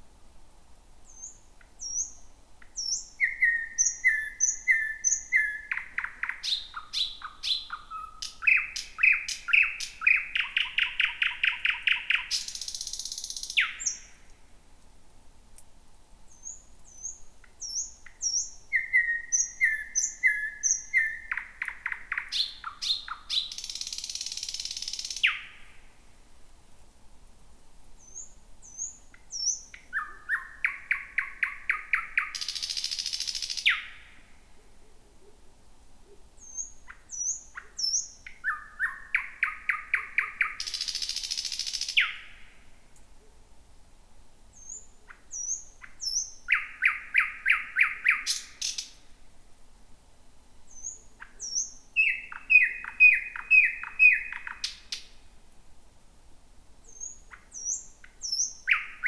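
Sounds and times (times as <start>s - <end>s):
nightingale singing: 1.0s - 14.4s, 16.3s - 25.9s, 28.0s - 34.4s, 36.0s - 43.3s, 44.5s - 49.1s, 50.7s - 55.2s, 56.8s - 59.0s.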